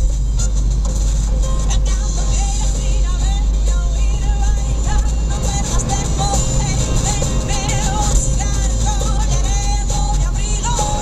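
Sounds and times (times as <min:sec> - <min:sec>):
low rumble: 0:00.0 - 0:11.0
music with singing from radio: 0:00.0 - 0:11.0.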